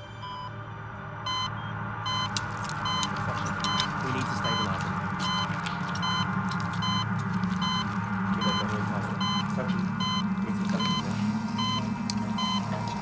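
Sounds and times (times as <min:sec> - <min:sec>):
patient monitor beeping: 0:00.0 - 0:00.6, 0:01.2 - 0:13.0
steady low drone: 0:00.0 - 0:13.0.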